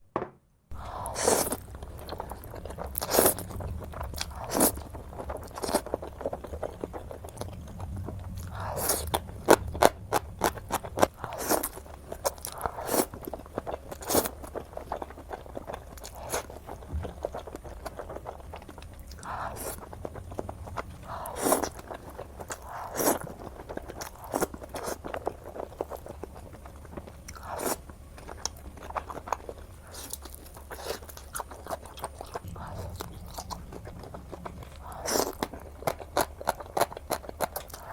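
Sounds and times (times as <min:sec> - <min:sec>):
faint low hum: 0:00.0 - 0:37.9
person chewing crunchy food: 0:00.7 - 0:37.9.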